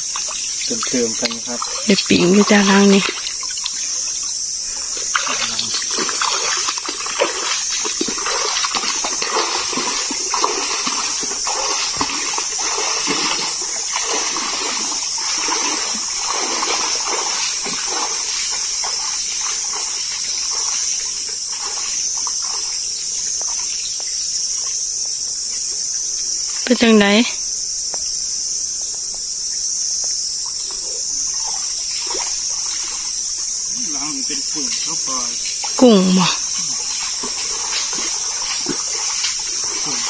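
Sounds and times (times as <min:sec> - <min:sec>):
wading through water splashing: 0:00.0 - 0:23.8, 0:30.5 - 0:40.0
high-pitched insect buzz: 0:00.0 - 0:40.0.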